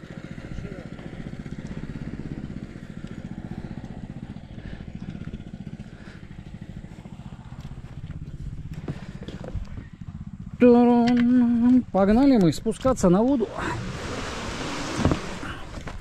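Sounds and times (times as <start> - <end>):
small vehicle engine running: 0.0 - 16.0.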